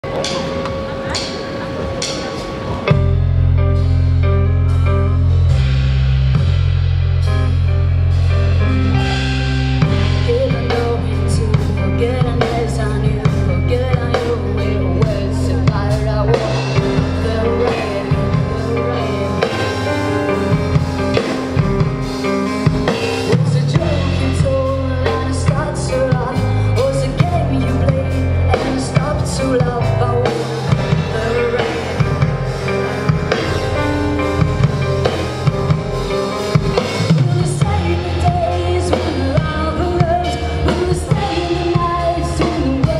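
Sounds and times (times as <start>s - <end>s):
drum kit beat: 0.0s - 42.9s
electric guitar: 0.0s - 42.9s
bass guitar low notes: 2.7s - 42.9s.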